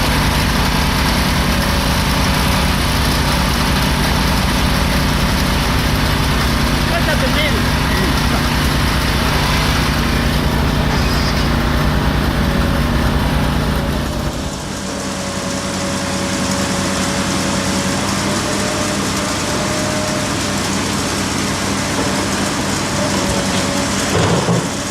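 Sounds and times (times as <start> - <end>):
construction machine engine running: 0.0 - 24.9.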